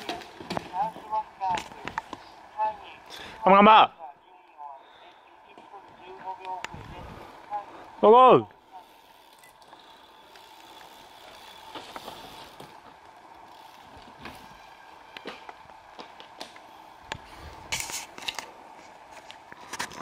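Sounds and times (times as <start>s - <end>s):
mountain bikes riding past: 0.0s - 19.9s.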